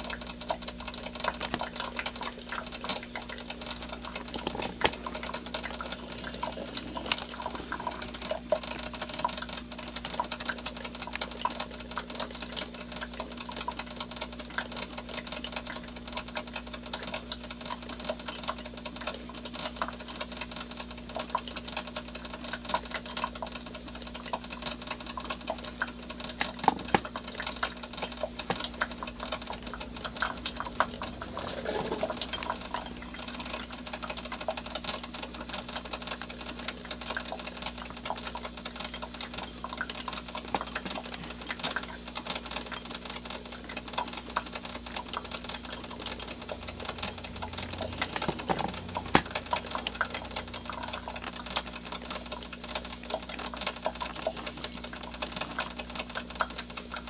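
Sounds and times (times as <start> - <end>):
steady hum: 0.0 - 19.8, 23.5 - 57.0
coffee maker clicking and sputtering: 0.0 - 57.0.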